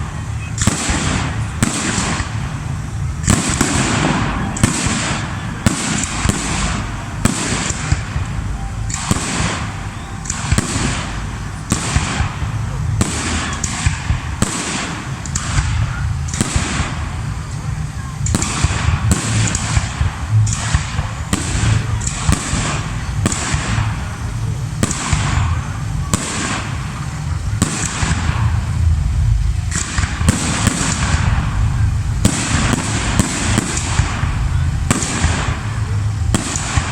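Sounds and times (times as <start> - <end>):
crackling hiss: 0.0 - 36.9
firework bangs: 0.0 - 36.9
low rumble: 0.0 - 36.9.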